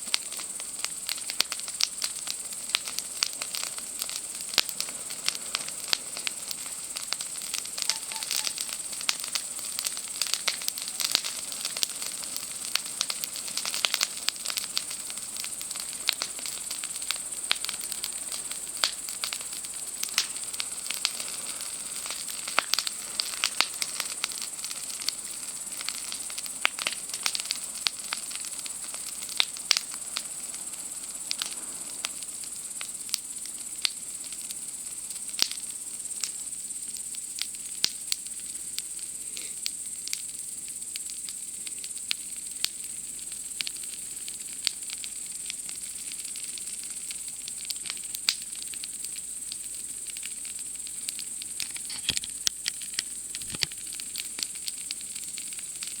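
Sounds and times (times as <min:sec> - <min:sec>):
campfire crackling and popping: 0:00.0 - 0:56.0
night insects chirping: 0:00.0 - 0:56.0.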